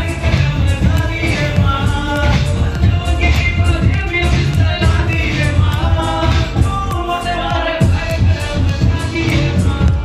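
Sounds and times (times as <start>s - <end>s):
background music with steady beat: 0.0s - 10.0s
person singing: 0.0s - 10.0s.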